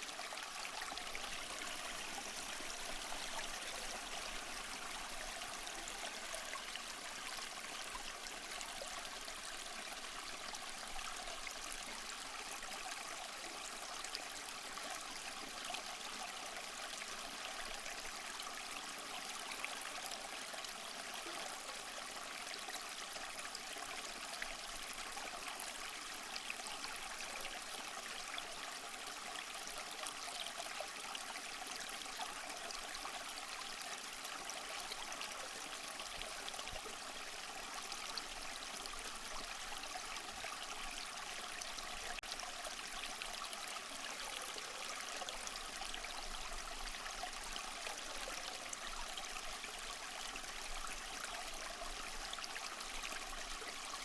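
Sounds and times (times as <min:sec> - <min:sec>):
small waterfall splashing over rocks: 0:00.0 - 0:54.0.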